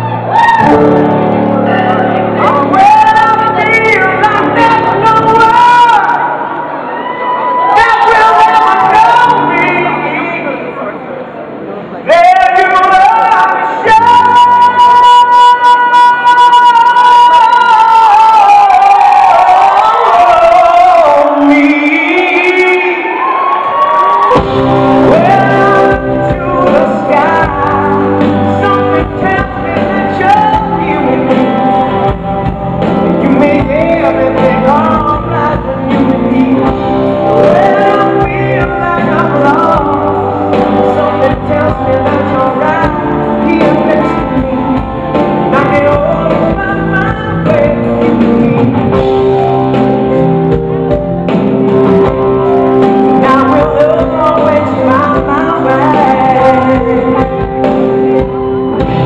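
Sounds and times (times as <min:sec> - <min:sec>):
live pop-rock band playing: 0:00.0 - 0:59.0
man singing: 0:00.6 - 0:06.5, 0:07.6 - 0:10.9, 0:12.0 - 0:23.3, 0:24.3 - 0:59.0.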